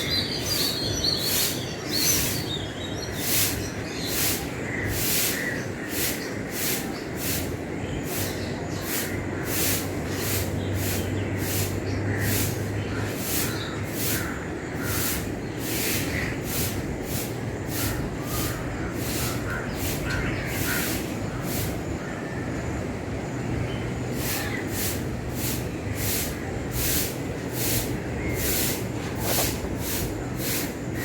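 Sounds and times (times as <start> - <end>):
broom sweeping ground: 0.4 - 21.8, 24.1 - 31.0.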